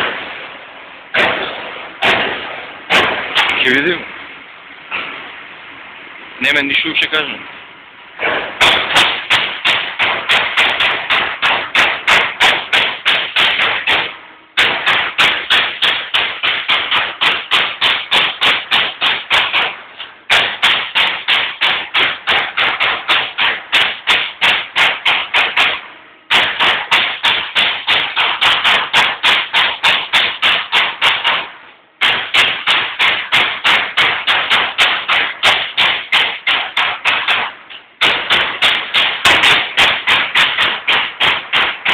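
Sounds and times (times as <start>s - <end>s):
punch press punching sheet metal: 0.0s - 0.5s, 1.1s - 3.8s, 8.2s - 41.9s.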